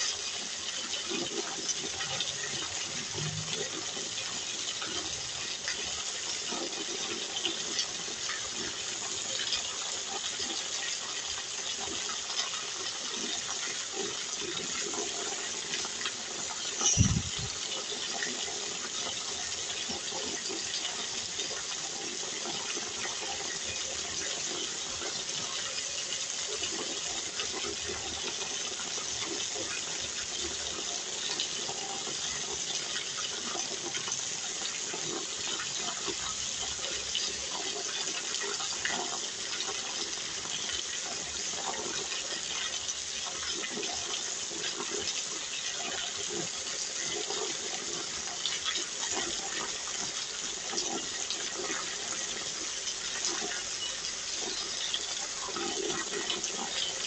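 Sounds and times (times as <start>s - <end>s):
rain falling: 0.0s - 57.0s
rainwater pouring off roof: 0.0s - 57.0s.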